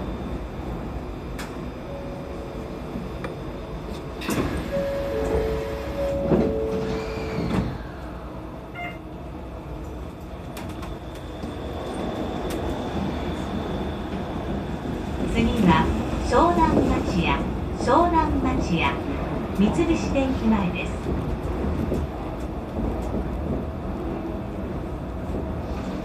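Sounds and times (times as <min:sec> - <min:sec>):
train cab humming: 0:00.0 - 0:26.0
train running noise: 0:00.0 - 0:26.0.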